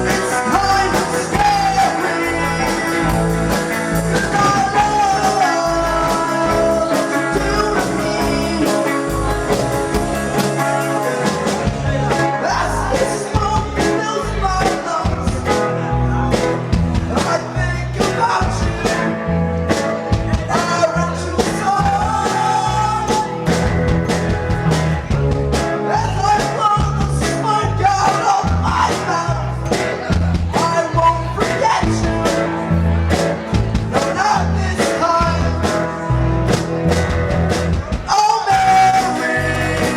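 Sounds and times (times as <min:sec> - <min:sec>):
person singing: 0:00.0 - 0:23.9, 0:24.5 - 0:37.2, 0:37.8 - 0:39.9
drums keeping steady beat: 0:00.0 - 0:39.9
rock band playing: 0:00.0 - 0:39.9.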